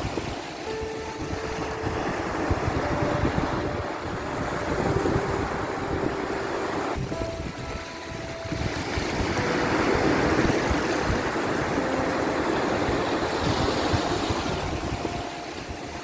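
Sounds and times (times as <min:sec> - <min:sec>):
sea waves washing: 0:00.0 - 0:16.0
wind on microphone: 0:00.0 - 0:16.0.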